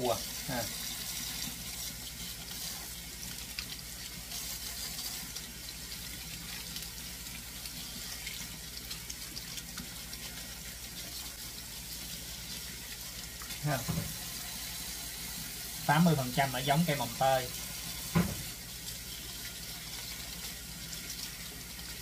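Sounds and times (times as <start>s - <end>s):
faucet running into metal sink: 0.0s - 22.0s
greens rinsed under water: 0.0s - 22.0s.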